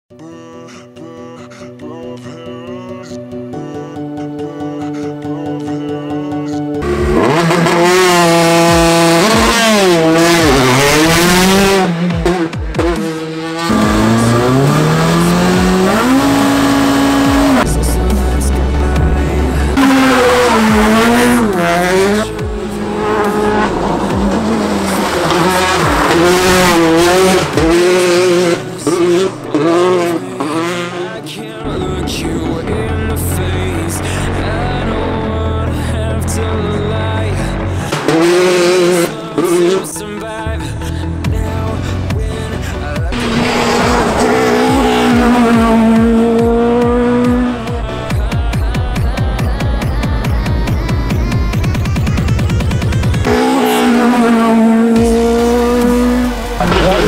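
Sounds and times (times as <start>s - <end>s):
intro music: 0.3s - 57.0s
rally car engine revving: 6.8s - 57.0s.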